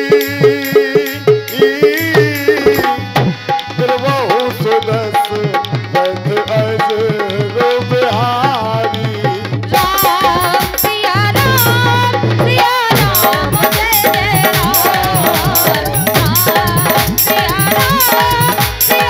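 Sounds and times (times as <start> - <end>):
hand drums beating: 0.0 - 19.0
harmonium melody: 0.0 - 19.0.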